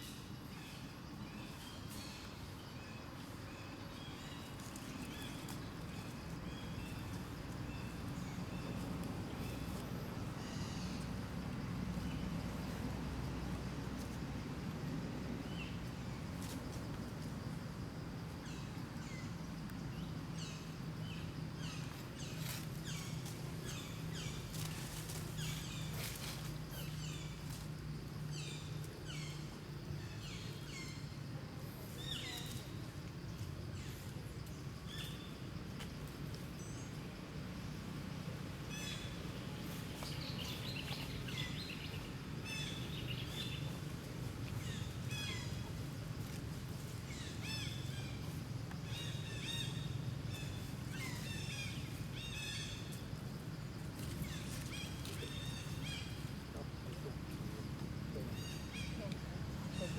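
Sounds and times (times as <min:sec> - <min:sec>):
low outdoor hum: 0:00.0 - 0:59.9.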